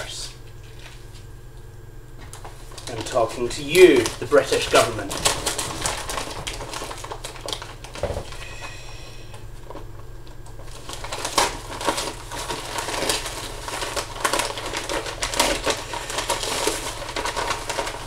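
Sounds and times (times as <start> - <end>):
paper and tape crinkling: 2.2 - 18.0.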